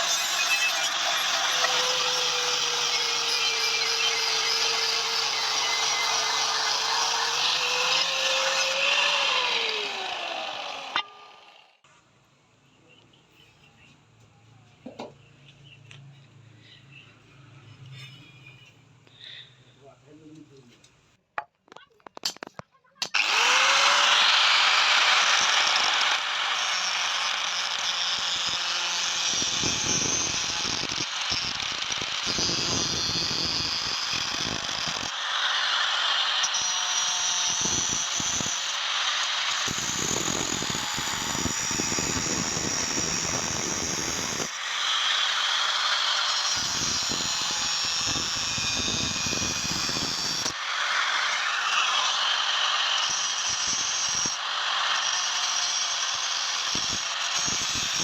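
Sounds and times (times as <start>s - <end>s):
electric power tool running: 0.0s - 11.8s, 23.2s - 58.0s.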